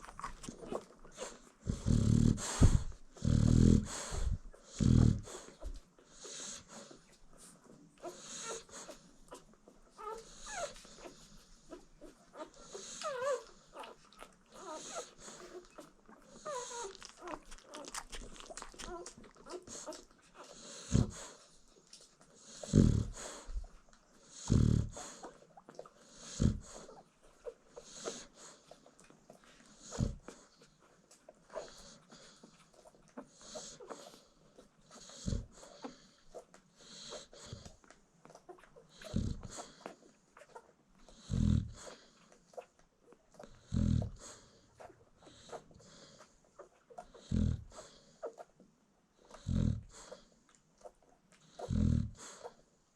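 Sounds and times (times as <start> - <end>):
dog snoring: 0.0 - 7.0, 8.0 - 21.6, 22.4 - 28.8, 29.4 - 30.7, 31.5 - 32.6, 33.2 - 42.6, 43.4 - 48.5, 49.2 - 50.3, 51.4 - 52.6.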